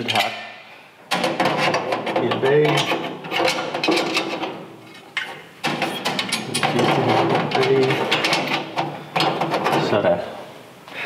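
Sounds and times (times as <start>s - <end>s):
metal plates clattering on steel: 0.0s - 10.1s
short metallic knocks and scrapes: 0.0s - 10.1s.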